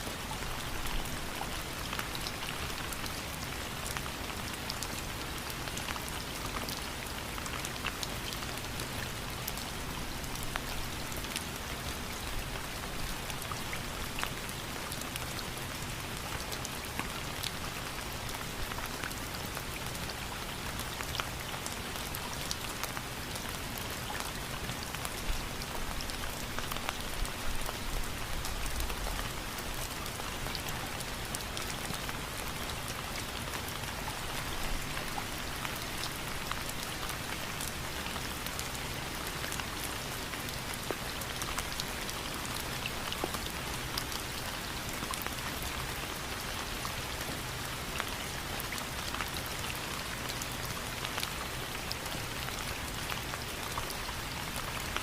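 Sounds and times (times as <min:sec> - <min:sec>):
raindrops pattering on a surface: 0:00.0 - 0:55.0
steady rain hiss: 0:00.0 - 0:55.0.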